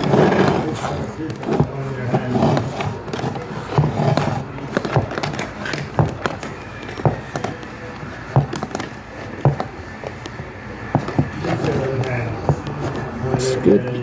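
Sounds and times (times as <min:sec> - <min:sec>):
plastic parts clicking and knocking: 0:00.0 - 0:13.4.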